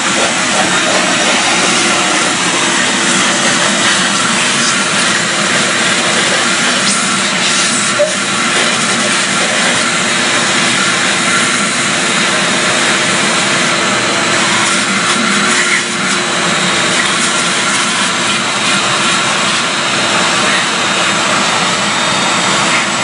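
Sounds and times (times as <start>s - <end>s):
shop vacuum running: 0.0s - 23.0s.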